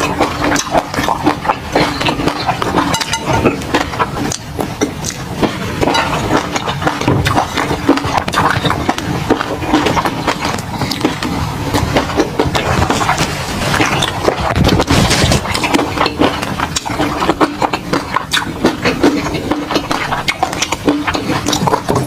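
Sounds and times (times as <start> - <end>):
wet chewing and lip smacking: 0.0 - 22.0.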